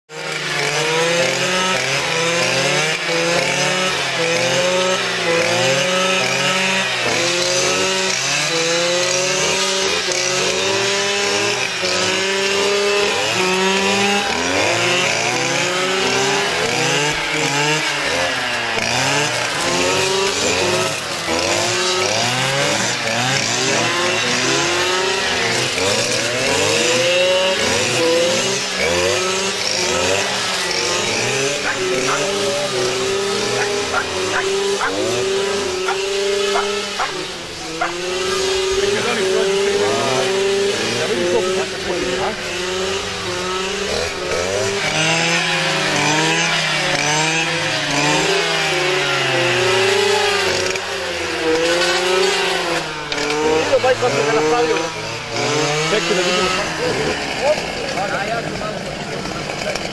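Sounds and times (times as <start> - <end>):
brush cutters revving: 0.1 - 59.9.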